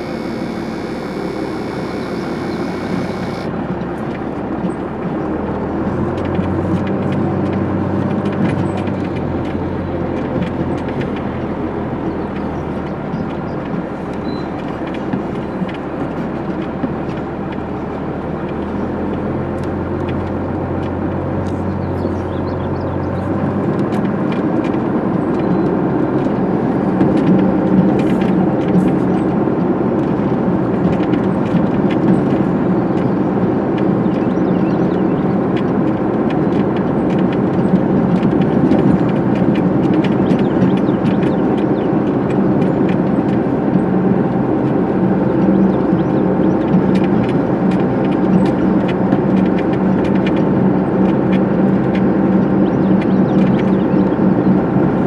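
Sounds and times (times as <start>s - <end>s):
bulldozer diesel engine running: 0.0s - 55.0s
faint clicks and rattles: 6.1s - 55.0s.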